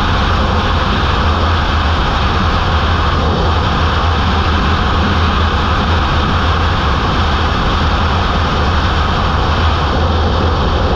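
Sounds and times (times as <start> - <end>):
heavy fluttering wind rush: 0.0 - 10.9.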